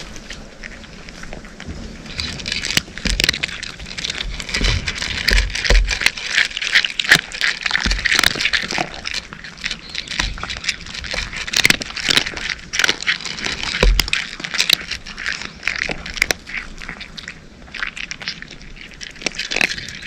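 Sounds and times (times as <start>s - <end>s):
dull low bumps: 0.0s - 17.8s
cats crunching dry kibble: 0.0s - 20.0s.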